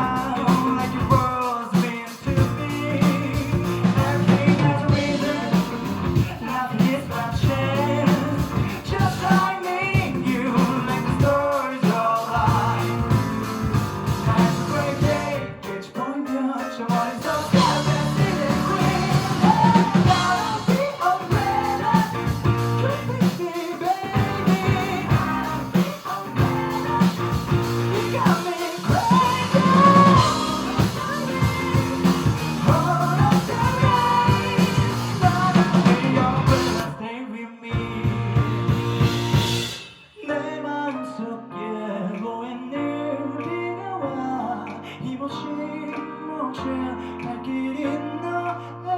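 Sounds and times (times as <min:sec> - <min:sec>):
drums: 0:00.0 - 0:37.0, 0:37.6 - 0:40.3
person singing: 0:00.0 - 0:38.6, 0:40.2 - 0:48.9
guitar: 0:00.0 - 0:48.9.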